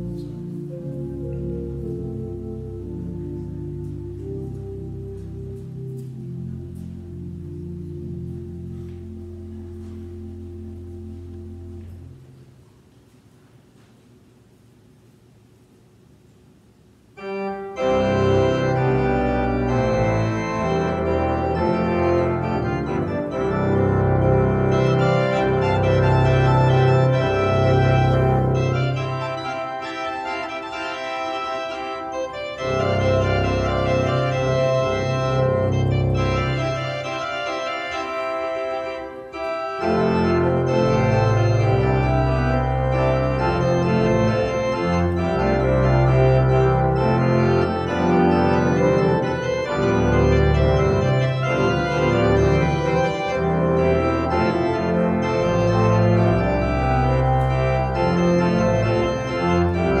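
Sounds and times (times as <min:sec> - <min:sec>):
organ playing slow chords: 0:00.0 - 0:13.9, 0:16.8 - 1:00.0.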